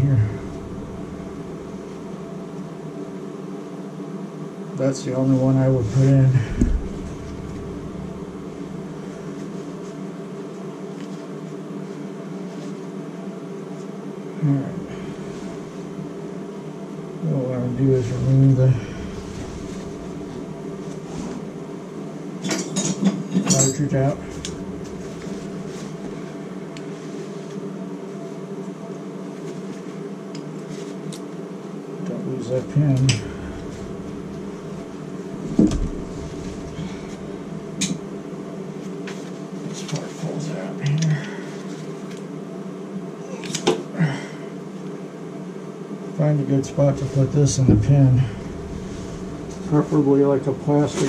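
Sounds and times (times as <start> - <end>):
machine hum with steady tones: 0.0 - 51.0.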